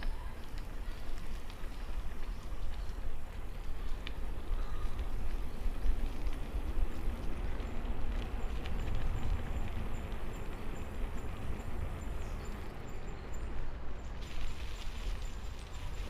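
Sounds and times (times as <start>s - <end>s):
tyres hissing on wet pavement: 0.0s - 12.8s, 14.1s - 16.0s
wind buffeting microphone: 0.0s - 16.0s.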